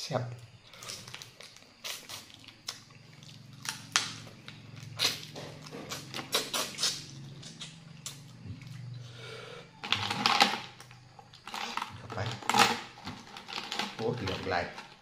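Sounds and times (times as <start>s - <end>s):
steady low hum: 0.0s - 14.0s
crab shell crunching and chewing: 0.7s - 8.9s, 9.8s - 15.0s.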